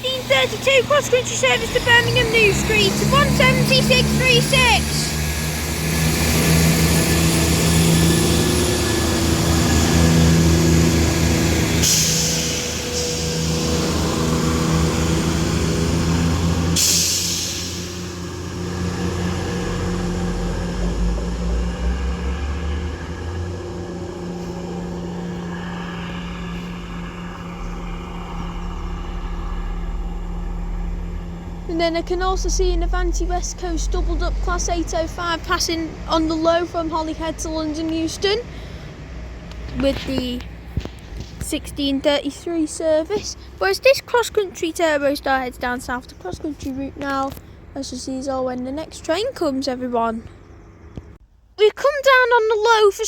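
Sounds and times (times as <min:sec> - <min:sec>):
diesel train engine throbbing: 0:00.0 - 0:53.0.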